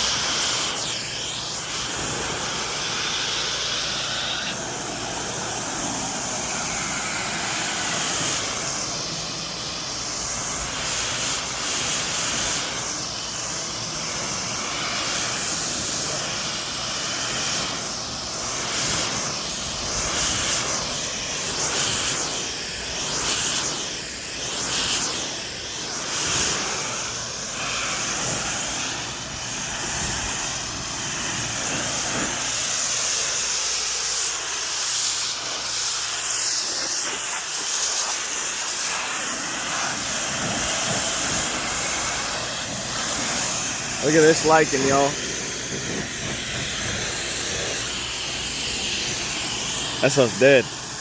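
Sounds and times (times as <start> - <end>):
pressure washer jet hissing: 0.0 - 51.0.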